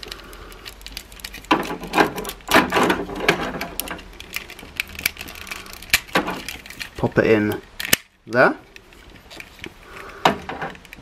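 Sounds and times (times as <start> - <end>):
plastic toy parts clicking: 0.0 - 11.0.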